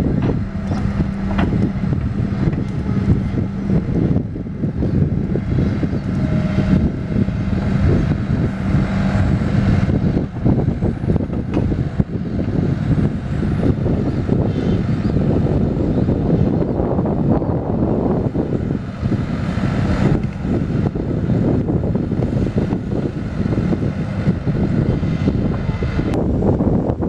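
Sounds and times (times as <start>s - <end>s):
excavator tracks creeping: 0.0s - 26.2s
excavator diesel engine running: 0.0s - 27.0s.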